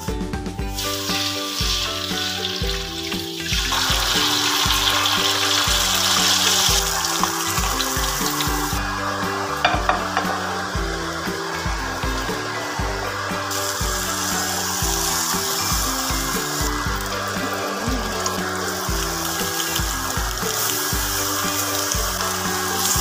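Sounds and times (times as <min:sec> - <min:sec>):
background music with steady beat: 0:00.0 - 0:23.0
fish sizzling in hot oil: 0:00.7 - 0:23.0.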